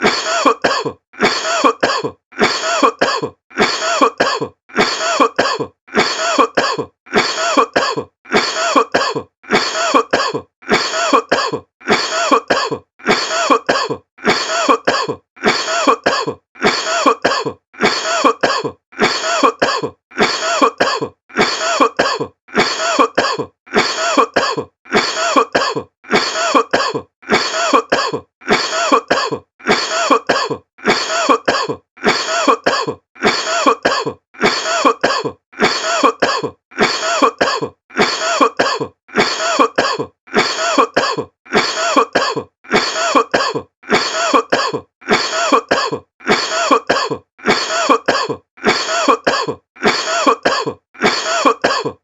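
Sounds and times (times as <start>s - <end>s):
person coughing: 0.0s - 52.0s.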